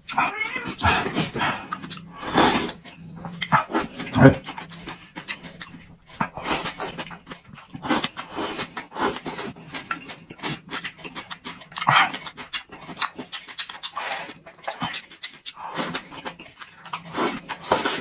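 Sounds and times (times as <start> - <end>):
wet chewing and lip-smacking: 0.0 - 18.0.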